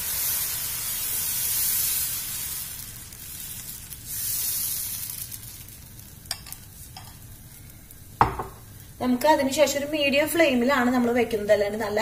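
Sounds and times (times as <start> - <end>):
batter sizzling on a hot pan: 0.0 - 12.0.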